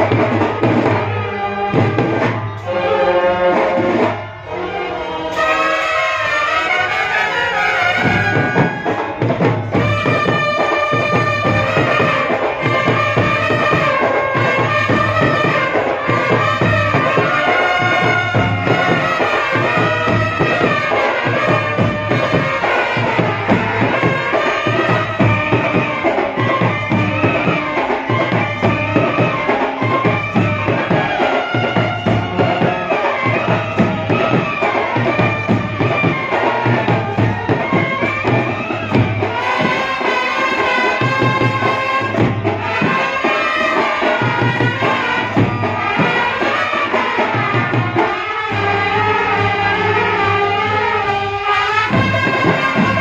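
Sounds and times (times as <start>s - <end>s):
drums and cymbal beat: 0.0s - 4.2s, 5.2s - 53.0s
brass band playing: 0.0s - 53.0s.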